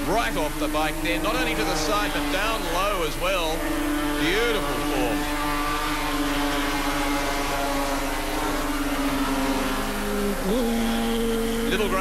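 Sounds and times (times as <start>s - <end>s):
lower motorcycle engine note: 0.0s - 12.0s
racing motorcycle engine: 0.0s - 12.0s.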